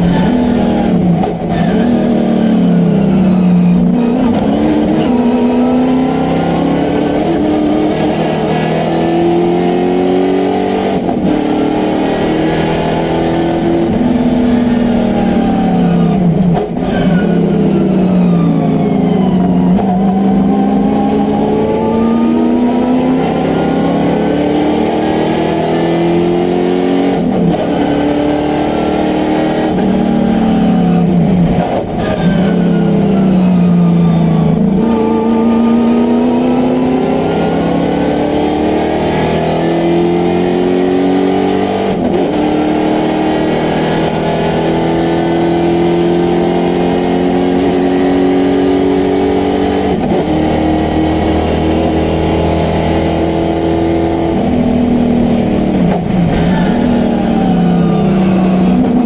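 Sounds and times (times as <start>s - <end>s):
racing car engine accelerating: 0.0s - 59.0s.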